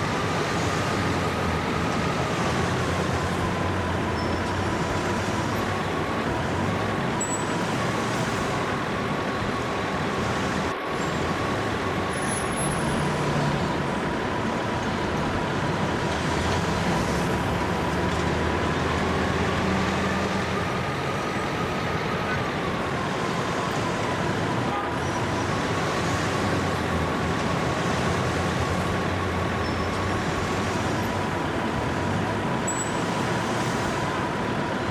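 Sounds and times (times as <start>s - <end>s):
heavy vehicle engine running: 0.0s - 34.9s.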